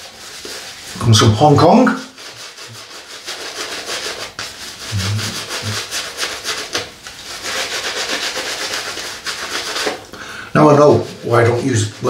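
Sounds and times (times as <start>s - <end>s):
shaving brush swishing on stubble: 0.0s - 12.0s.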